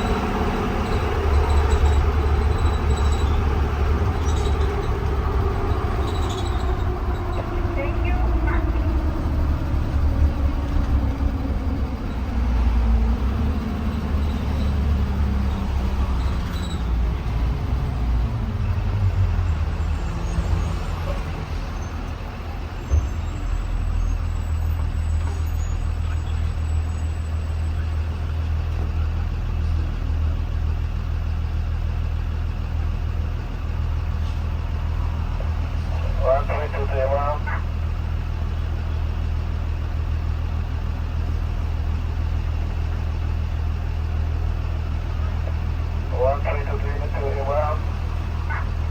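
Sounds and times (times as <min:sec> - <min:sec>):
bus engine idling: 0:00.0 - 0:48.9.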